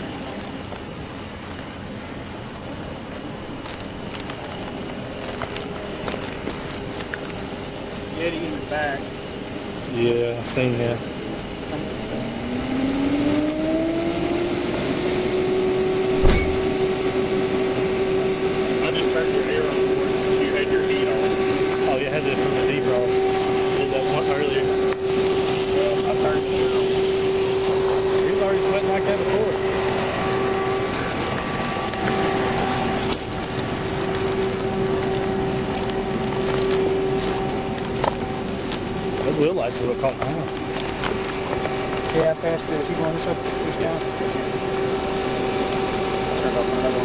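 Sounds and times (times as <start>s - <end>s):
air-conditioning blower fan hum: 0.0s - 47.0s.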